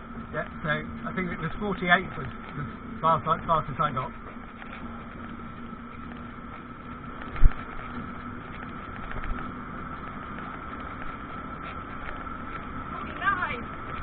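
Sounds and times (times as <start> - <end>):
thin steady whine: 0.0 - 14.0
vehicle road and drive hum: 0.0 - 14.0.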